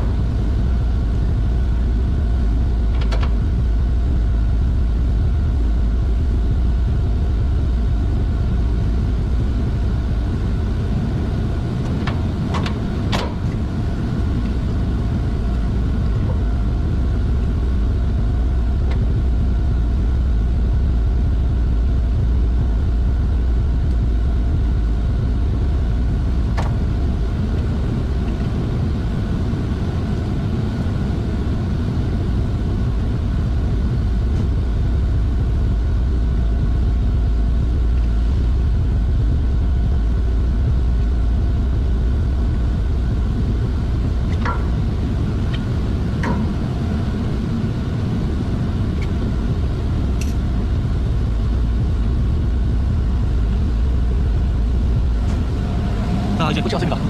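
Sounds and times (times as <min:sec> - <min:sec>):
industrial machinery drone: 0:00.0 - 0:57.0.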